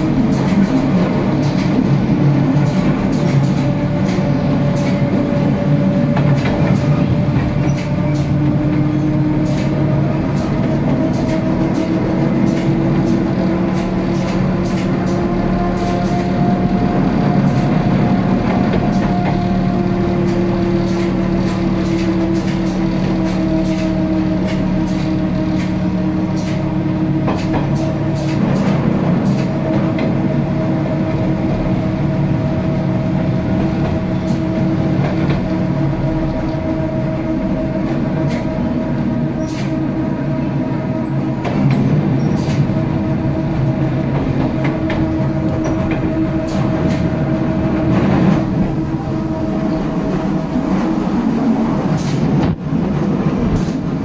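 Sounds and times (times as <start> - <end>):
electric train humming: 0.0 - 54.0
train whine: 0.0 - 54.0.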